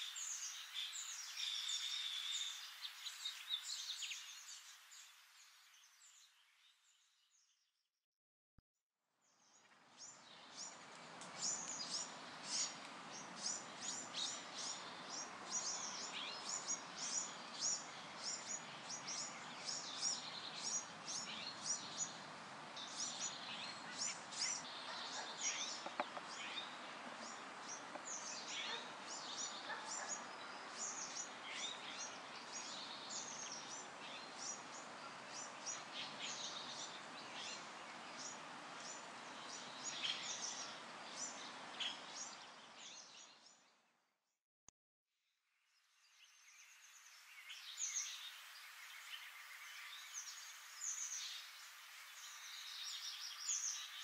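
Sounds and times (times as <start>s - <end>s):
background hiss: 0.0s - 6.5s, 9.6s - 43.2s, 45.9s - 54.0s
small birds chirping: 0.0s - 7.5s, 9.3s - 43.8s, 46.0s - 54.0s.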